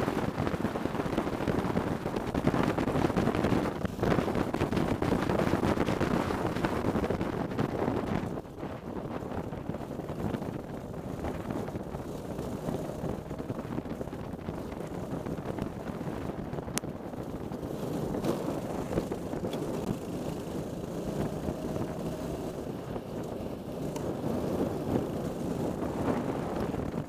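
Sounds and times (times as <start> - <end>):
racing kart engine running hard: 0.0 - 27.0
wind buffeting microphone: 0.0 - 27.0.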